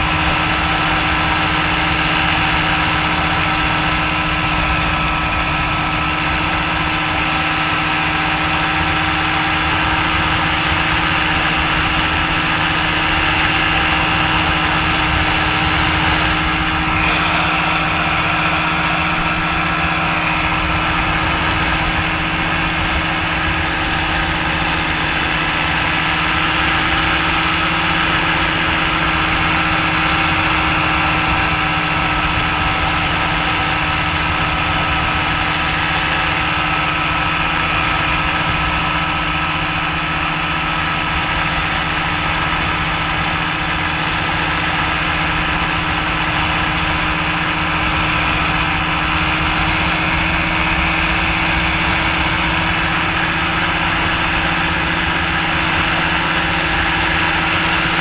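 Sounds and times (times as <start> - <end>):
paraglider engine droning: 0.0 - 58.0.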